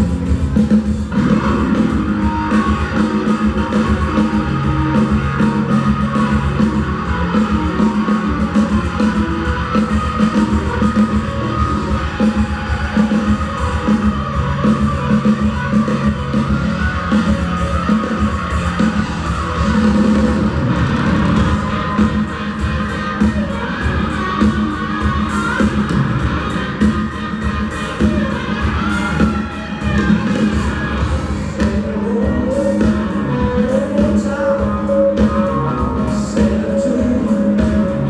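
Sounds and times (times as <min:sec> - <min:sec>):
bass: 0:00.0 - 0:38.0
drum kit: 0:00.0 - 0:38.0
electric guitar: 0:00.0 - 0:38.0.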